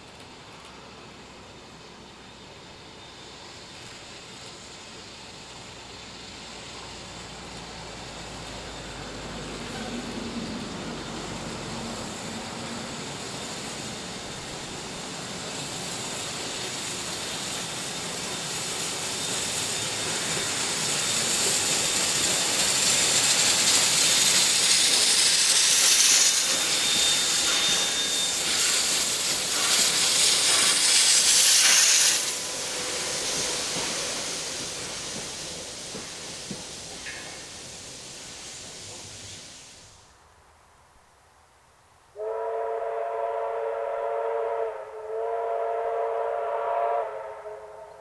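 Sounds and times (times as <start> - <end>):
train running noise: 0.0 - 40.1
steam hissing: 0.0 - 40.2.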